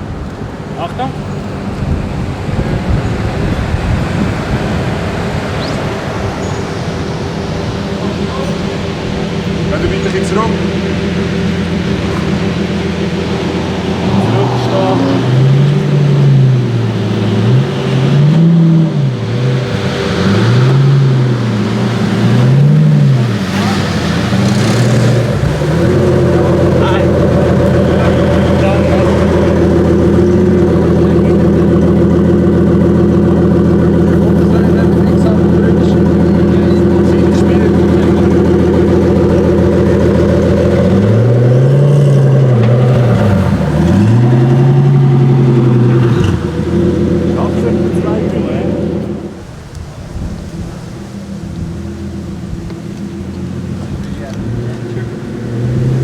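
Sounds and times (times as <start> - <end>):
car engine revving loudly: 0.0 - 56.0.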